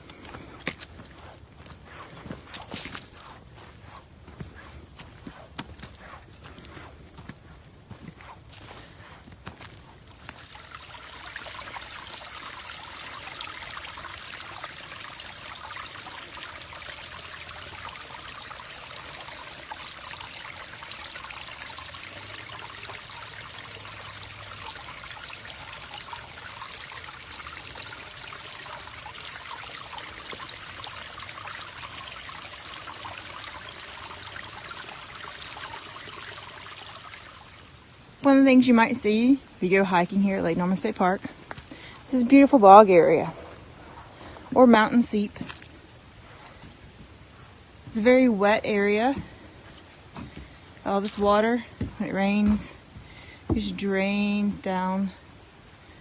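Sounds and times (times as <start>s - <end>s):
creek trickling: 0.0s - 56.0s.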